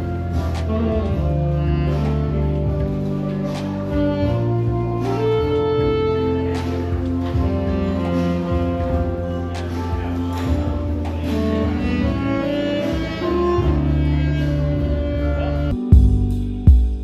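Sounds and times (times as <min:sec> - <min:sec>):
background music with bass notes: 0:00.0 - 0:17.0.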